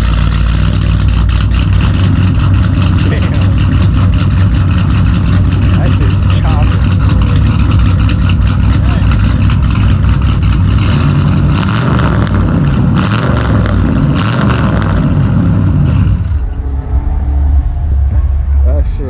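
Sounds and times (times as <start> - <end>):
car engine idling unevenly: 0.0 - 19.0.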